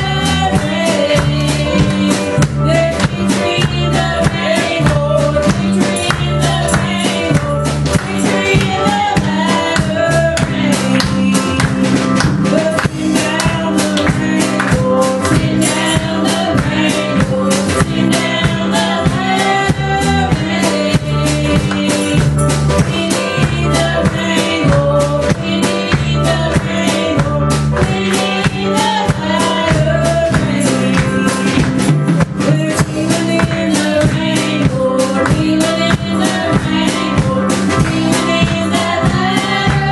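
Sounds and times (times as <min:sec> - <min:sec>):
women singing through microphones: 0:00.0 - 0:31.7, 0:32.4 - 0:39.9
drum kit beat: 0:00.0 - 0:39.9
electric keyboard playing: 0:00.0 - 0:39.9.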